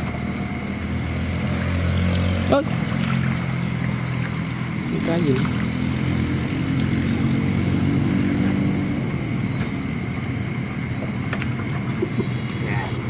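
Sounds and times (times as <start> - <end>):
small boat engine droning: 0.0 - 13.0.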